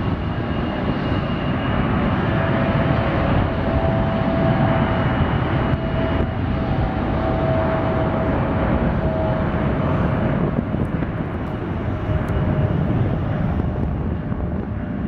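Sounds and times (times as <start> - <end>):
faint jet whine: 0.0 - 15.0
jet engines rumbling: 0.0 - 15.0.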